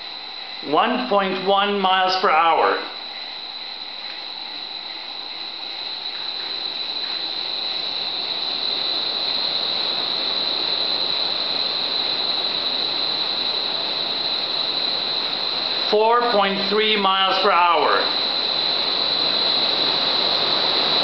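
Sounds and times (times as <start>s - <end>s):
high fan whine: 0.0s - 21.0s
rush of air from fan: 0.0s - 21.0s.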